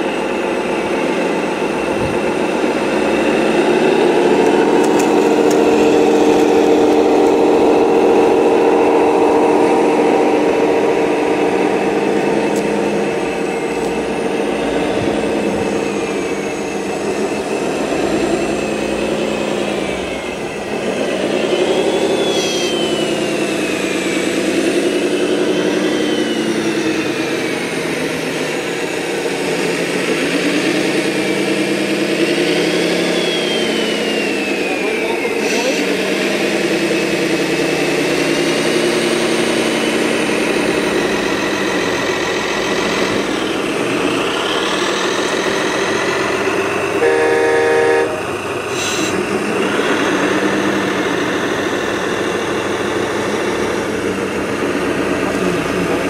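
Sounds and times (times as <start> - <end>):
model vehicle engine sound: 0.0 - 56.0.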